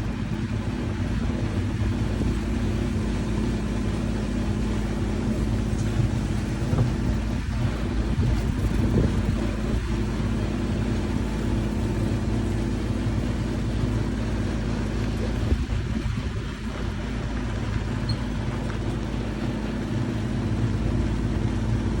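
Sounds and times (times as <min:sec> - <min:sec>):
road and wind noise: 0:00.0 - 0:22.0
vehicle engine humming: 0:00.0 - 0:22.0.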